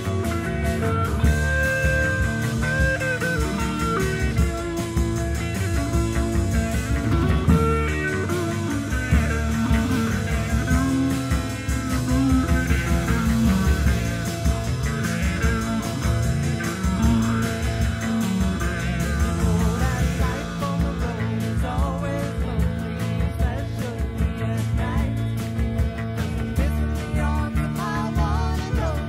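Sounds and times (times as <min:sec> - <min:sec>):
psychedelic rock music: 0:00.0 - 0:29.0
wavering lead guitar: 0:00.0 - 0:29.0.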